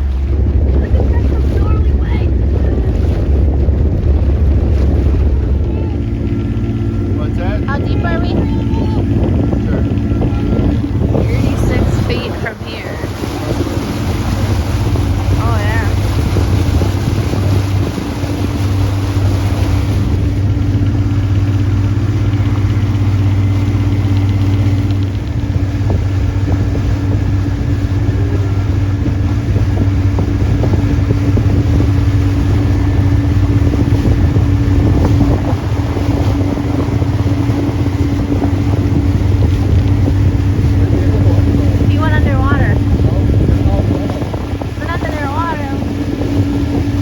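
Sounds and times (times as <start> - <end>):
motorboat engine droning: 0.0 - 47.0.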